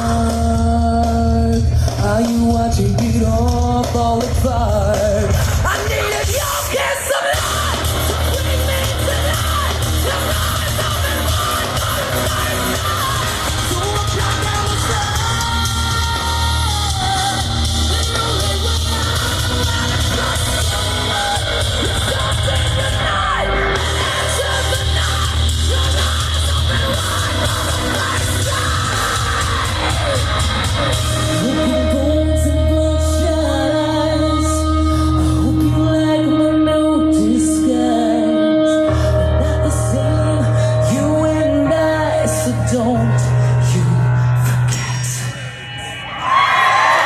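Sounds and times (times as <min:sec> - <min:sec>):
person singing or yelling: 0:00.0 - 0:44.1
live hard rock band: 0:00.0 - 0:47.0.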